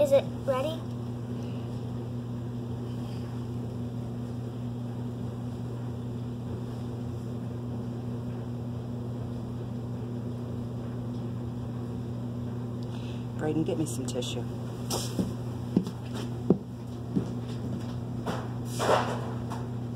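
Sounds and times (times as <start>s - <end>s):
low mechanical hum: 0.0s - 19.9s.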